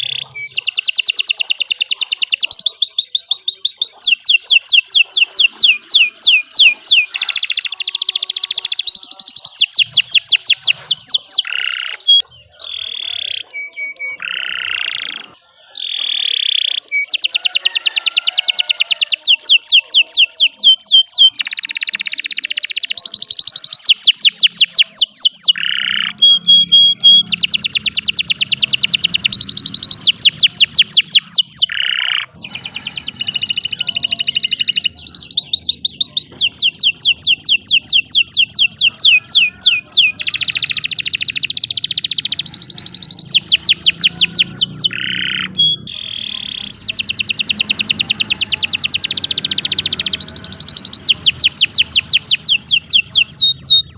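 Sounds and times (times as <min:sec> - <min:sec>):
canary singing with trills: 0:00.0 - 0:53.9.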